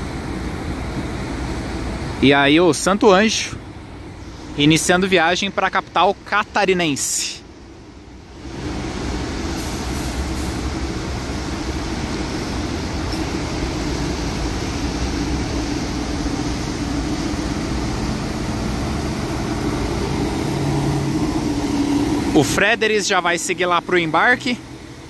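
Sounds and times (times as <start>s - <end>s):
coach diesel engine passing: 0.0s - 25.0s.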